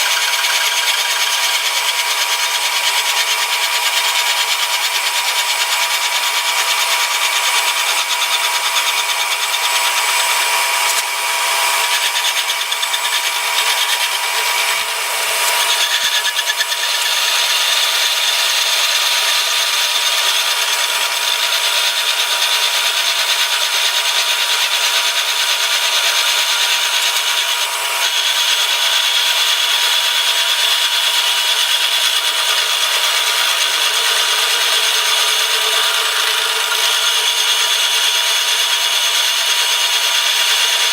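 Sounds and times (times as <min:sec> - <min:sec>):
milling machine cutting metal: 0:00.0 - 0:40.9.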